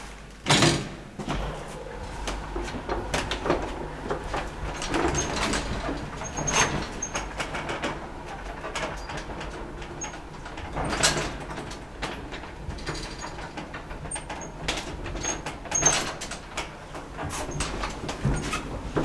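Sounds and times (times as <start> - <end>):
elevator clicks and rattles: 0.4 - 19.0
elevator low hum: 1.0 - 19.0.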